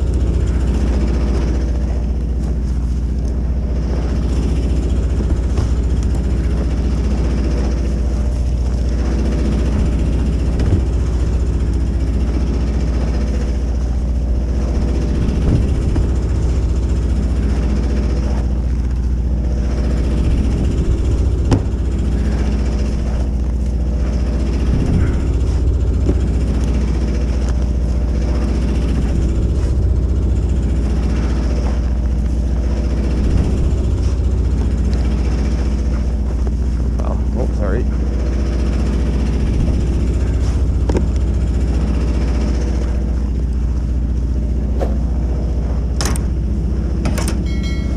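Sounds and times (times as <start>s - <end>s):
engine rumbling: 0.0s - 47.9s.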